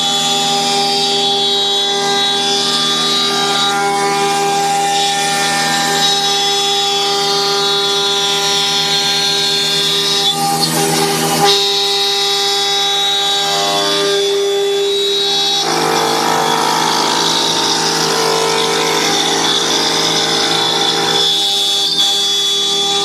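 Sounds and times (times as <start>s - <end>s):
coarse wood cutting noise: 0.0s - 23.0s
router spindle whine: 0.0s - 23.0s.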